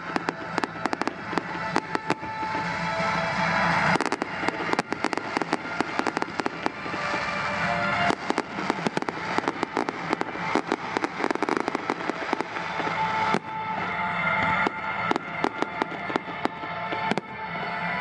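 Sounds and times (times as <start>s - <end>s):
fireworks crackling and popping: 0.0s - 18.0s
music playing: 0.0s - 18.0s.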